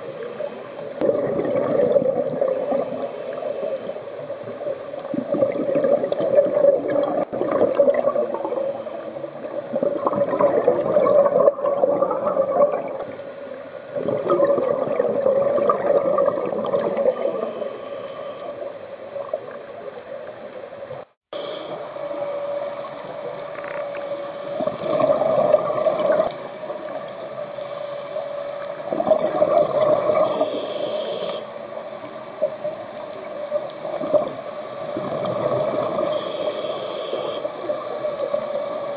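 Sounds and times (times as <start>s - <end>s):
exhaled bubbles rushing underwater: 0.0s - 21.1s, 22.2s - 27.6s, 28.2s - 30.8s, 31.7s - 36.8s.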